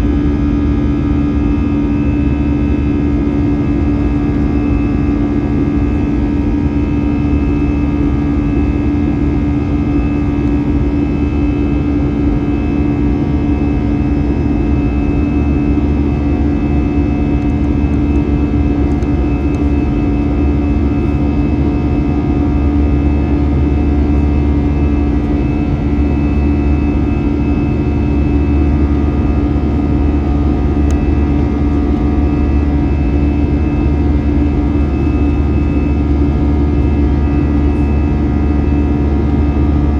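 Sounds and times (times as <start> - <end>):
constant humming tones: 0.0 - 39.9
jet engine cabin drone: 0.0 - 39.9.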